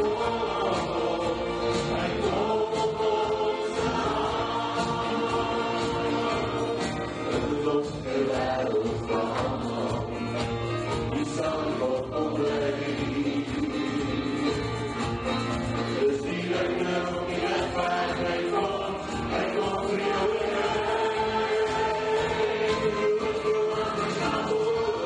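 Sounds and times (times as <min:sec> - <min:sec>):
bass guitar: 0:00.0 - 0:25.0
group of voices singing: 0:00.0 - 0:25.0.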